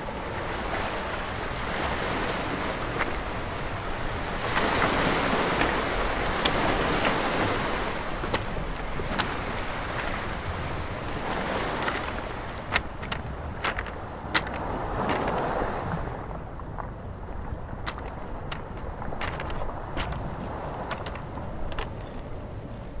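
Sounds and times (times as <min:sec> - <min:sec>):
surf washing onto pebbles: 0:00.0 - 0:16.4, 0:17.6 - 0:22.2.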